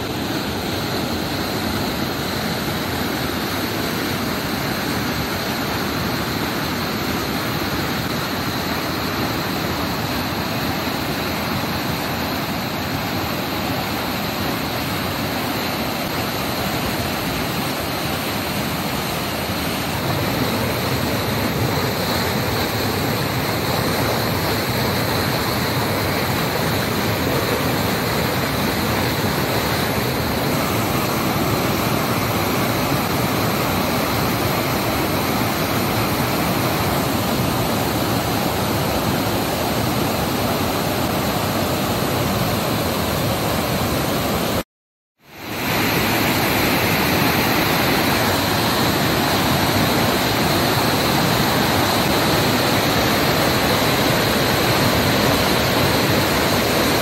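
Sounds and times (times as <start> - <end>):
waterfall rushing: 0.0 - 44.6, 45.3 - 57.0.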